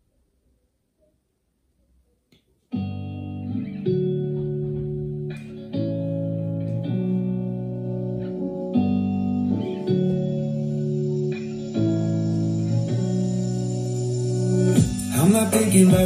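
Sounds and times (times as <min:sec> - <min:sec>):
guitar pop song from speaker: 0:02.7 - 0:16.0.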